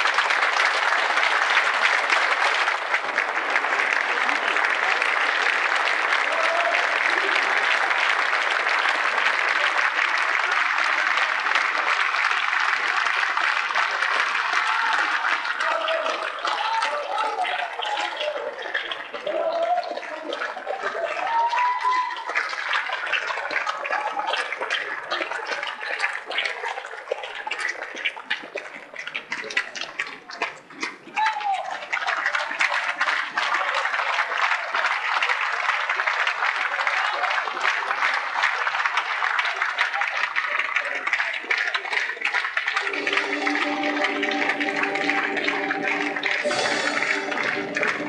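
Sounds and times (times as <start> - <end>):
audience applauding: 0.0 - 48.0.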